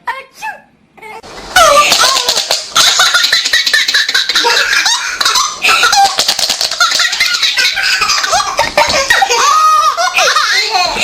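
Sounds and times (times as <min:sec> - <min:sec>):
child laughing: 0:01.6 - 0:11.0.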